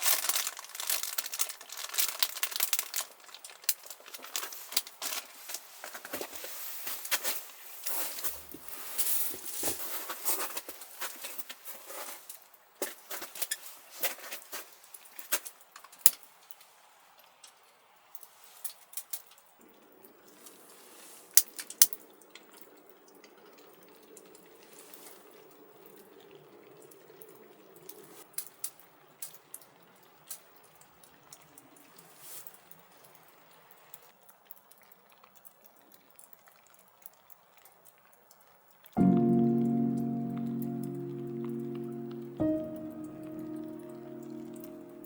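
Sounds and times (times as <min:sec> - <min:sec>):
water dripping and splashing: 0:00.0 - 0:20.6, 0:21.4 - 0:45.0.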